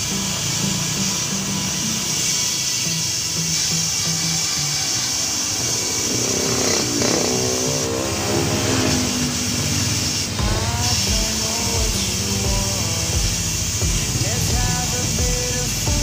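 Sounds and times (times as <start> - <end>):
motorcycle speeding up: 0.0 - 16.0
steady high hiss: 0.0 - 16.0
vehicles passing: 0.0 - 16.0.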